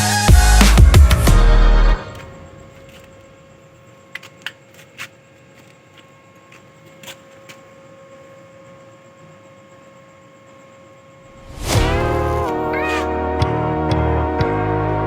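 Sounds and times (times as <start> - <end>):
faint steady hum: 1.4 - 13.6.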